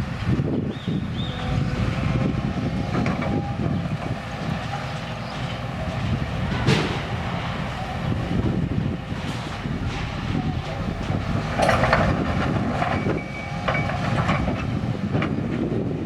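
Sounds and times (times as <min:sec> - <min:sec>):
heavy vehicle rumble: 0:00.0 - 0:16.0.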